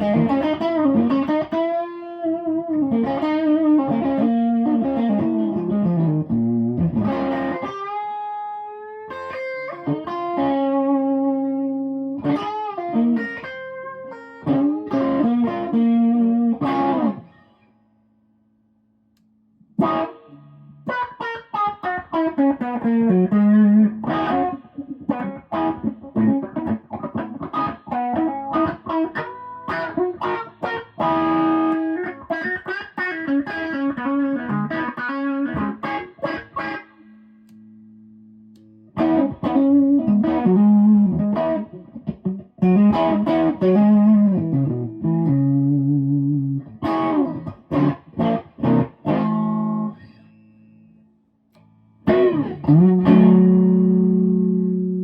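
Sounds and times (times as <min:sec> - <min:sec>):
electric guitar through amplifier: 0:00.0 - 0:17.6, 0:19.8 - 0:50.9, 0:51.6 - 0:55.0.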